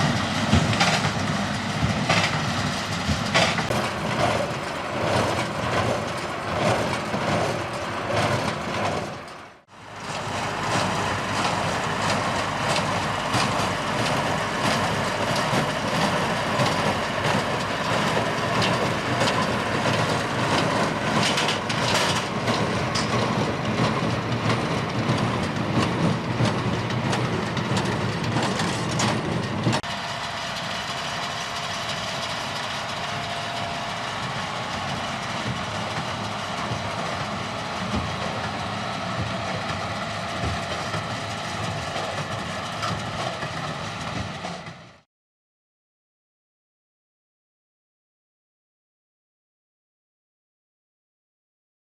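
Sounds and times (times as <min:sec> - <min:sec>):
hay baler clattering: 0:00.0 - 0:44.9
tractor engine: 0:00.0 - 0:45.0.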